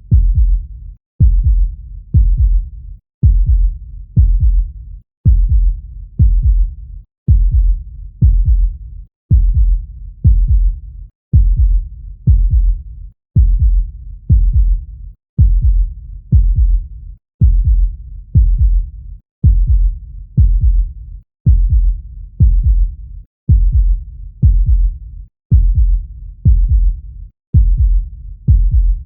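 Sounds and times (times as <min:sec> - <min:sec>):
heartbeat thumps: 0:00.1 - 0:12.8, 0:13.4 - 0:29.0.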